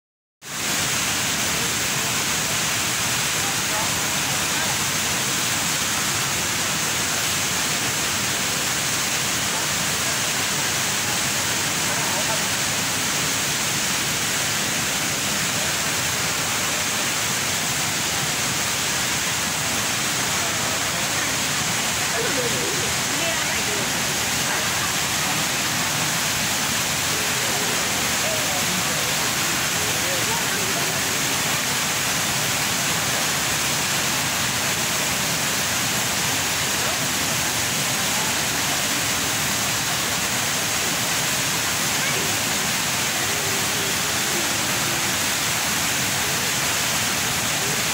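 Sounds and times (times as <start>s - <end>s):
indoor waterfall rushing: 0.4s - 47.9s.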